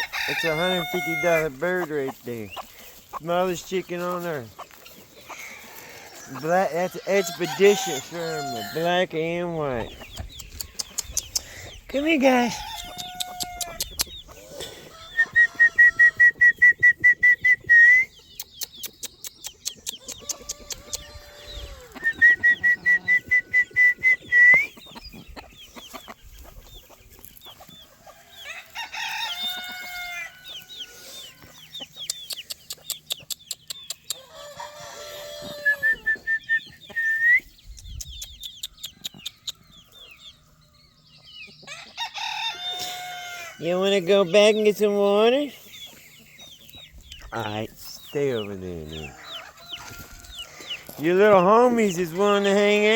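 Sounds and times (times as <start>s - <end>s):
chickens clucking and crowing: 0.0s - 52.9s.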